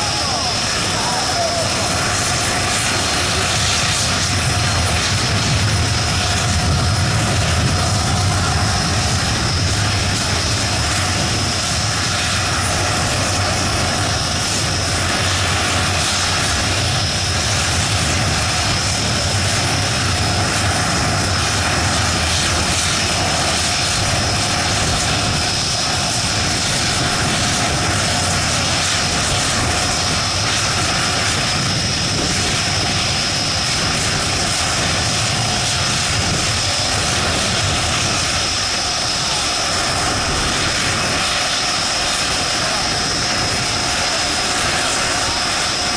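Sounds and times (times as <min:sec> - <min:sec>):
jet engine rumble and whine: 0:00.0 - 0:45.9.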